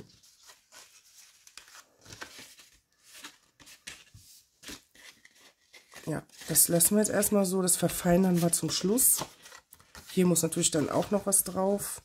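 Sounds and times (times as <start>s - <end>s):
paper crinkling: 0.0s - 11.9s
paper rustling and scraping: 0.0s - 11.9s.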